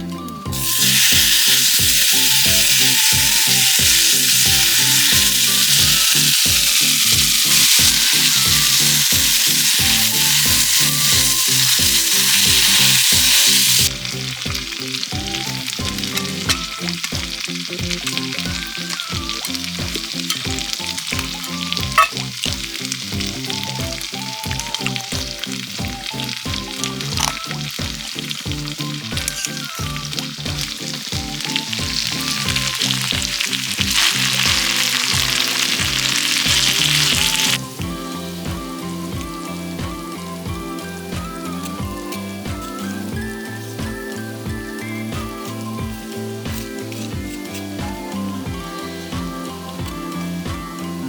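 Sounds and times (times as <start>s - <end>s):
background music with beat: 0.0s - 51.0s
food sizzling in a pan: 0.5s - 51.0s.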